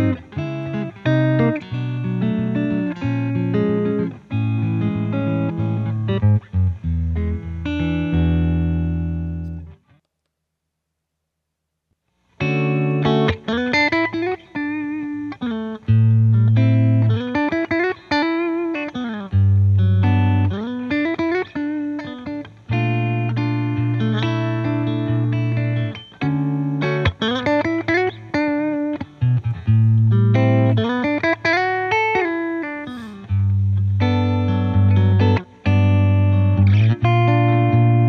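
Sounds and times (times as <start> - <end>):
electric guitar lead with bends: 0.0 - 9.8, 12.4 - 38.0.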